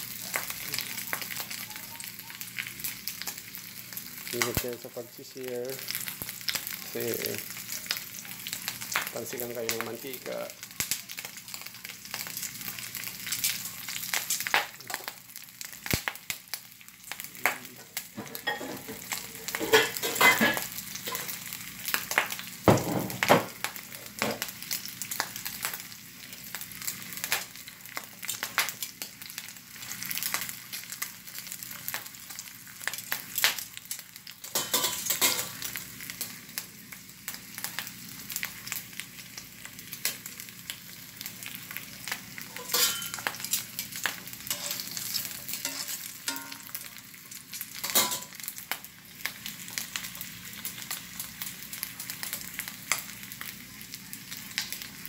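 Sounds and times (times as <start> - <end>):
meat sizzling in hot oil: 0.0 - 55.0.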